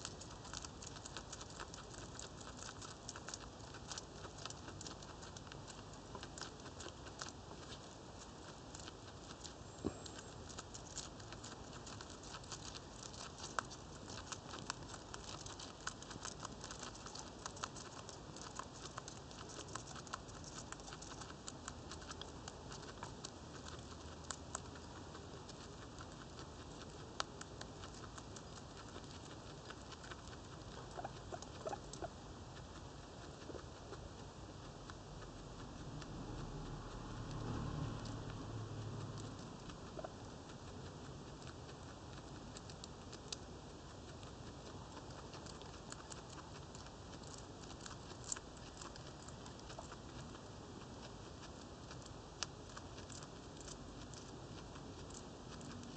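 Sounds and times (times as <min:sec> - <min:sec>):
guinea pig chewing hay: 0:00.0 - 0:55.9.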